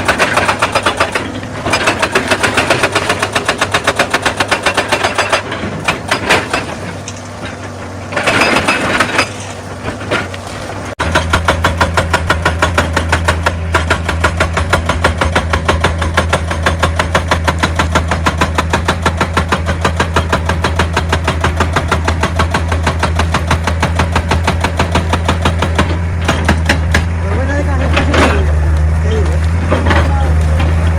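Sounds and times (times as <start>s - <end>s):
hydraulic breaker pounding stone: 0.0s - 10.3s, 11.0s - 30.9s
diesel engine hum: 0.0s - 30.9s.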